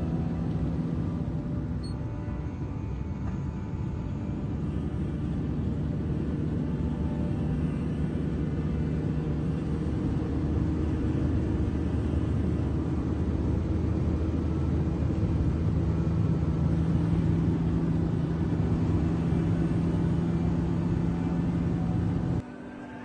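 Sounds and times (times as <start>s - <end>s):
low engine drone: 0.0s - 23.0s
road rumble: 0.0s - 23.0s.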